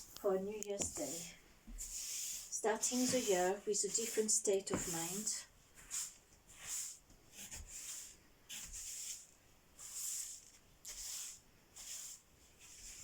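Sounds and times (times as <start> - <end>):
broom sweeping floor: 0.0 - 13.0.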